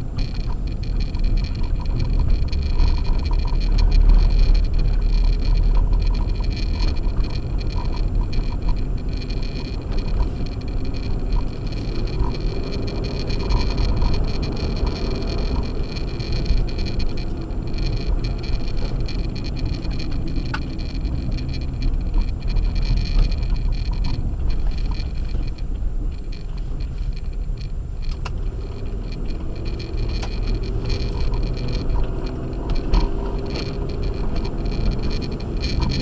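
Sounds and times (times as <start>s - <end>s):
engine and tyre rumble on snow: 0.0s - 36.0s.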